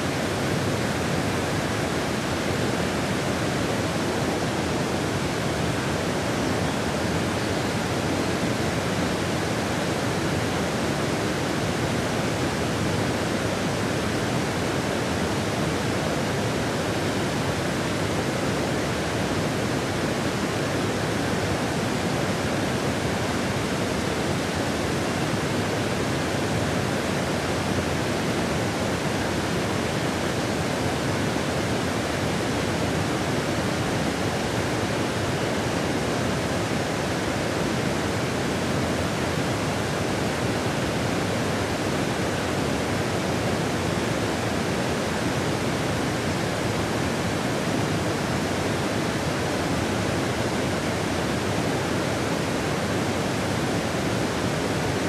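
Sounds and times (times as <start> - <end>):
waterfall rushing over rock: 0.0 - 55.0.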